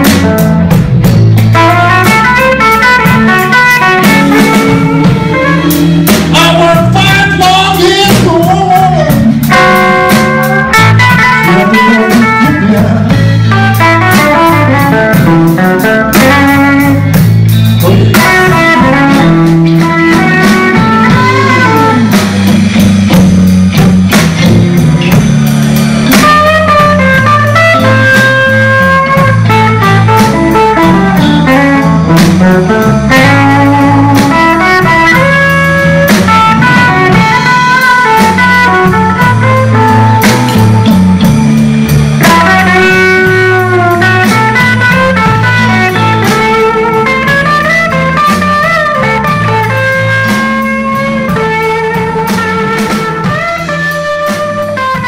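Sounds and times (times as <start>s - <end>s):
electric guitar runs: 0.0s - 8.3s, 9.2s - 55.0s
bass: 0.0s - 55.0s
drum kit: 0.0s - 55.0s.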